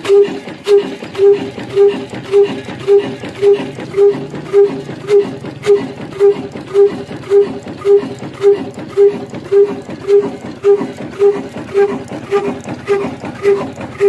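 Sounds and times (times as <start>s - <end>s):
stationary diesel engine running: 0.0s - 14.0s.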